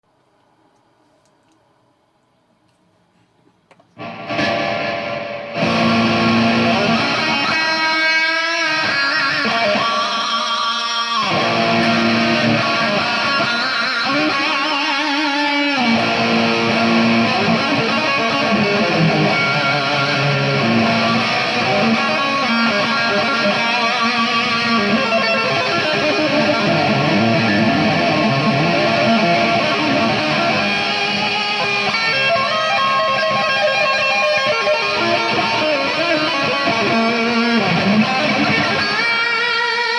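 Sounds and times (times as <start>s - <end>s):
electric guitar playing: 4.0s - 39.9s.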